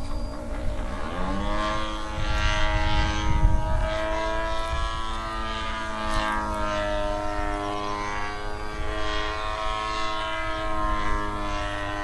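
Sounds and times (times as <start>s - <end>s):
model plane engine running: 0.0s - 12.0s.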